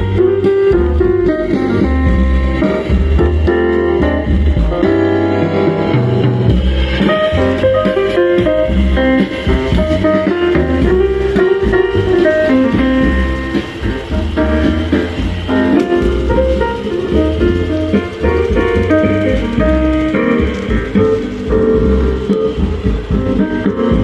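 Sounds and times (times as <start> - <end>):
bass-heavy music through speakers: 0.0 - 24.0.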